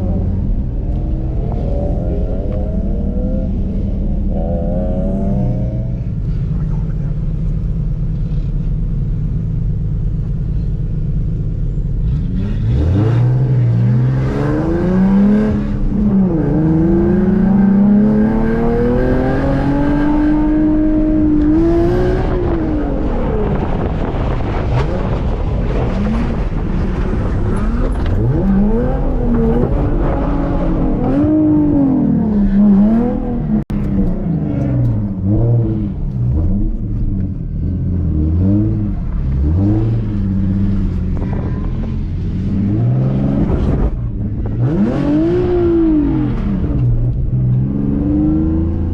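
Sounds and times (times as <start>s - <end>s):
car engine revving: 0.0s - 10.7s, 11.3s - 48.9s.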